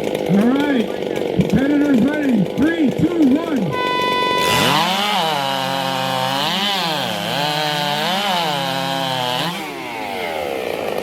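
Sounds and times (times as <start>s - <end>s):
chainsaws cutting logs: 0.0s - 11.0s.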